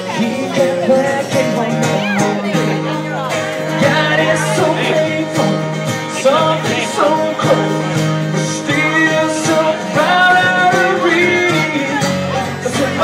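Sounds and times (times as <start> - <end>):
guitar: 0.0 - 13.0
person singing: 0.0 - 13.0.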